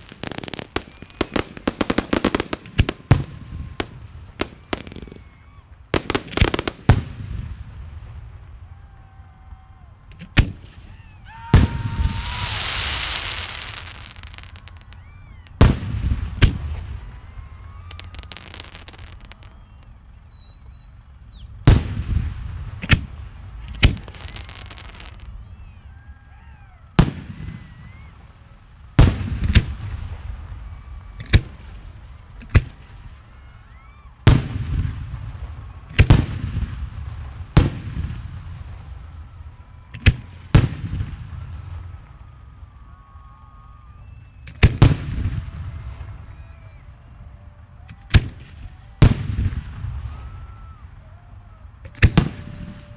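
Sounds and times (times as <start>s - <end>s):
firework rush of noise: 0.0s - 52.9s
fireworks booming with echo: 0.0s - 52.9s.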